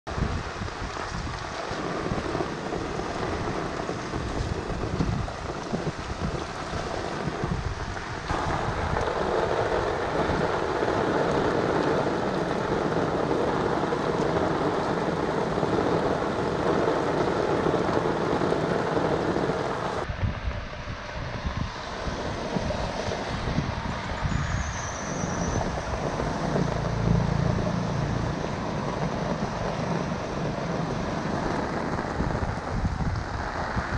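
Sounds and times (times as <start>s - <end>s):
steady rain on water: 0.1s - 20.1s, 21.7s - 33.9s
water rushing through a drain grate: 0.1s - 20.1s, 21.0s - 33.9s
wind buffeting the microphone: 0.1s - 33.9s.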